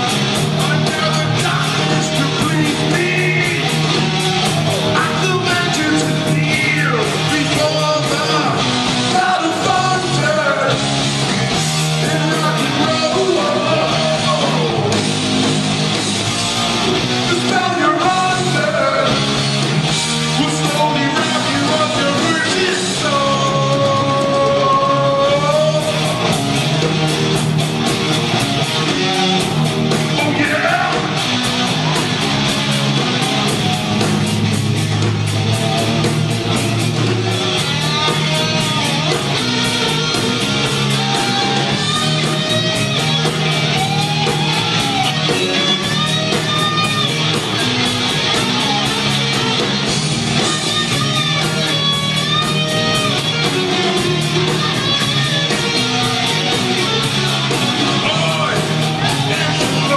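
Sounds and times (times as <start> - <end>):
hard rock band playing live: 0.0 - 59.9.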